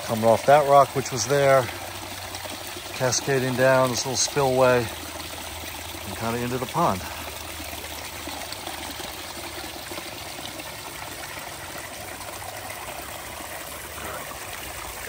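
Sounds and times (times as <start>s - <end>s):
water cascading over rocks: 0.0s - 15.0s.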